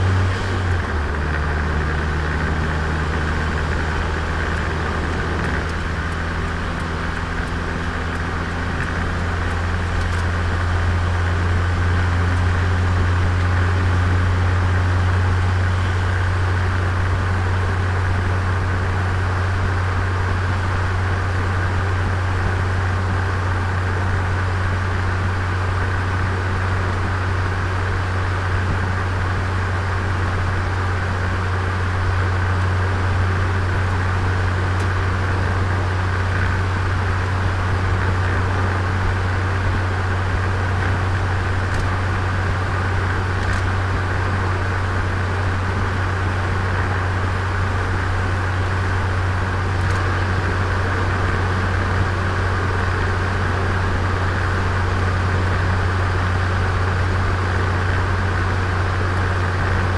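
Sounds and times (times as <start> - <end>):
car engine humming: 0.0 - 59.9
road and wind noise: 0.0 - 59.9.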